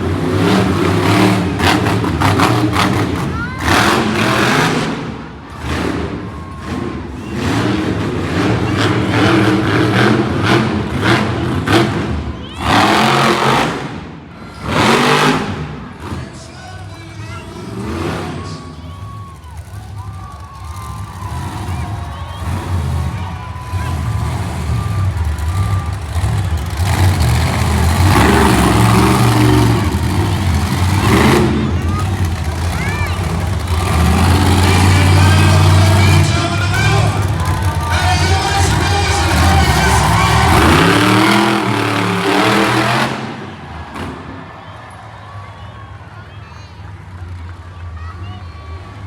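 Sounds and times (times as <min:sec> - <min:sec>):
monster truck engine revving: 0:00.0 - 0:49.0.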